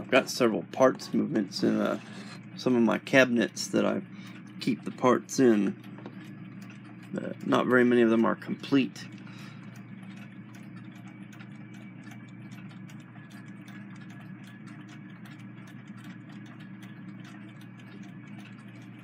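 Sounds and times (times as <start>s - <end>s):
alarm clocks ticking: 0.0s - 19.0s
steady low hum: 0.0s - 19.0s.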